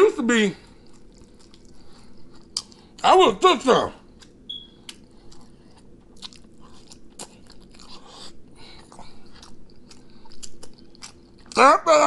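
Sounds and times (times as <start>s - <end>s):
person chewing crunchy food: 0.6s - 3.0s, 4.0s - 11.6s.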